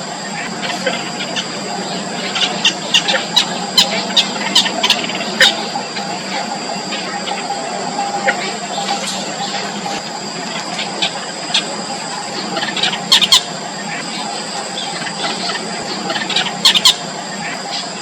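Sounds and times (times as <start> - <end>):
steady background hum: 0.0 - 18.0
nestling birds begging squeaks: 0.2 - 18.0.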